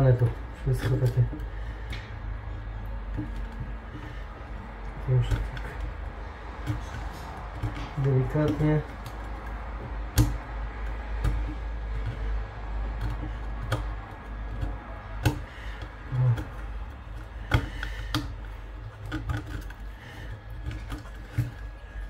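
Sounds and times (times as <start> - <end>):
steady low hum: 0.0 - 22.0
tool clicking and scraping glue: 0.0 - 22.0.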